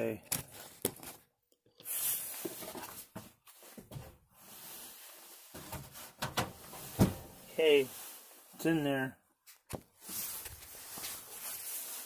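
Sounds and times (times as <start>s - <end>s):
soft scraping and handling noise: 0.4s - 8.8s, 9.4s - 12.0s.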